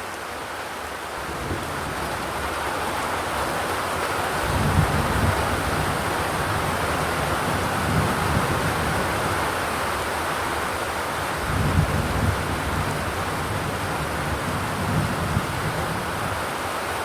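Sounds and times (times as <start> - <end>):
rain on a metal roof: 0.0 - 17.0.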